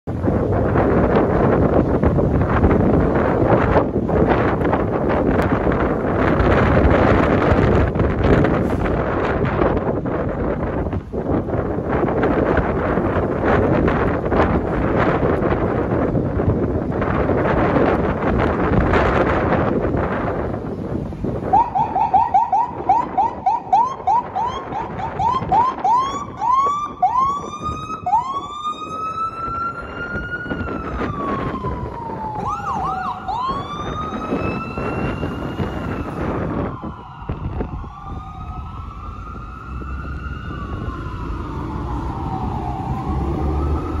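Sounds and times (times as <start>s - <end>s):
engine rumble: 0.1s - 44.0s
fire engine sirens wailing: 0.1s - 44.0s.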